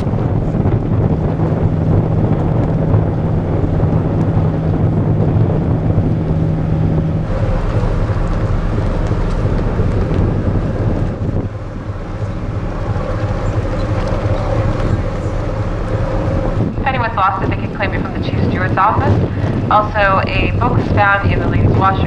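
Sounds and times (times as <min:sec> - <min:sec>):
ferry engines droning: 0:00.0 - 0:22.0
wind on microphone: 0:00.0 - 0:22.0.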